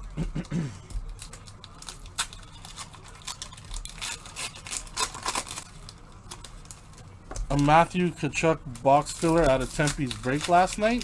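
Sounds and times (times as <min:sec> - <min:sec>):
foil wrappers tearing and crinkling: 0:01.1 - 0:08.0, 0:08.7 - 0:11.0.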